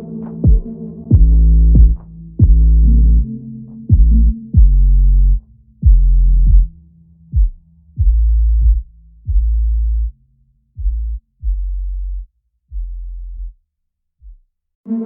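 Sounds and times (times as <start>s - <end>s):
deep booming bass notes: 0.0s - 13.6s.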